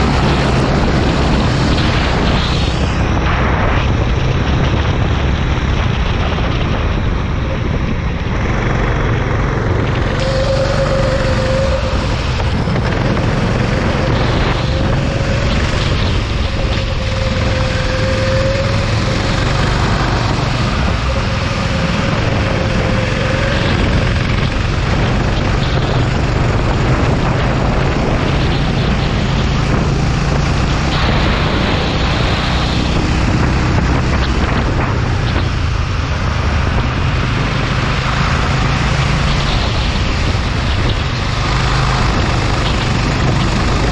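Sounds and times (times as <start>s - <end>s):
dense rushing noise: 0.0s - 43.9s
go-kart engine running: 0.0s - 43.9s
wavering whine: 0.0s - 43.9s.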